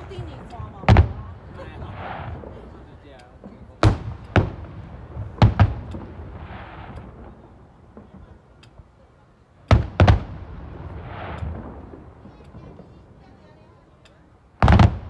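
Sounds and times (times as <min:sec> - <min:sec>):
fireworks hissing: 0:00.0 - 0:13.6
fireworks booming: 0:00.0 - 0:13.9, 0:14.5 - 0:15.0.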